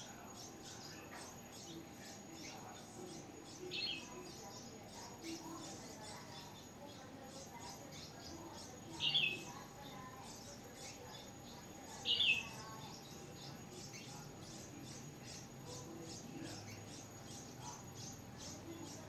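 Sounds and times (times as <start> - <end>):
bird chirps: 0.0 - 19.0
nestlings squeaking: 0.0 - 19.0.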